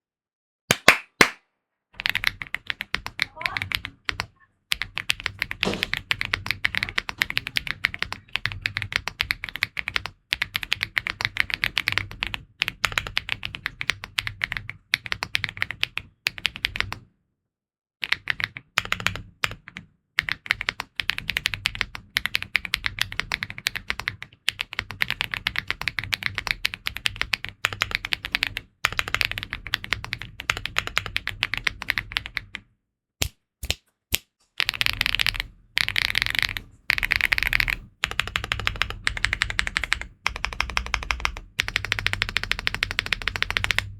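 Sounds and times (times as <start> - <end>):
fast typing on mechanical keyboard: 2.0 - 17.0, 18.0 - 32.6, 34.6 - 43.9.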